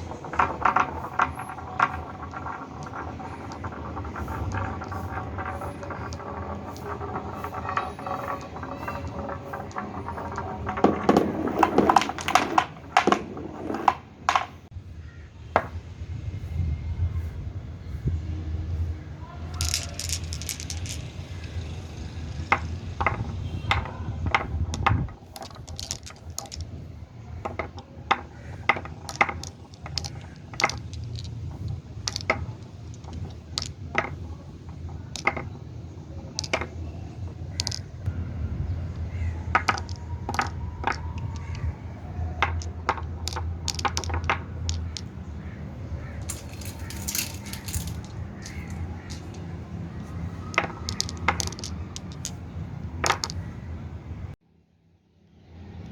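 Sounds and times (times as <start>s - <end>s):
marbles clicking: 0.0s - 14.6s, 19.4s - 54.3s
marbles rolling on a track: 0.0s - 14.7s, 19.4s - 54.4s.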